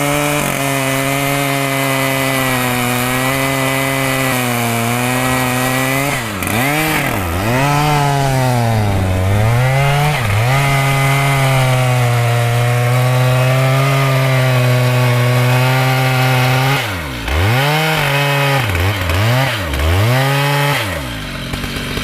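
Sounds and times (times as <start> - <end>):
chainsaw cutting wood: 0.0 - 22.0
chainsaw idling: 0.0 - 22.0
chainsaw throttle blips: 0.0 - 22.0.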